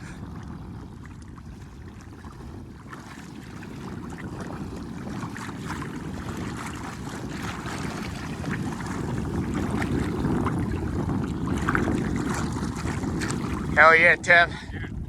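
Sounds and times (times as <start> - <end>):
water lapping and splashing: 0.0 - 15.0
wind buffeting microphone: 0.0 - 15.0.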